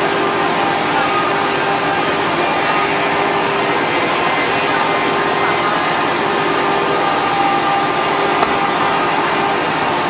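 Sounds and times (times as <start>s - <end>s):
cnc router whining hum: 0.0s - 10.0s.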